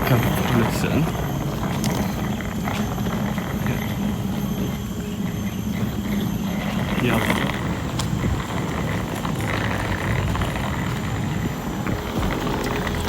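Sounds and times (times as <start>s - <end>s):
fluttering low rumble: 0.0s - 13.0s.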